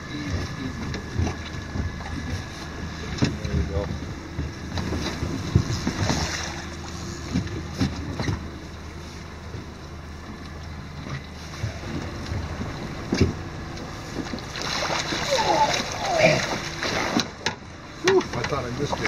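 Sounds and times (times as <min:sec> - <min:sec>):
water slapping against boat hull: 0:00.2 - 0:08.8, 0:09.4 - 0:19.0.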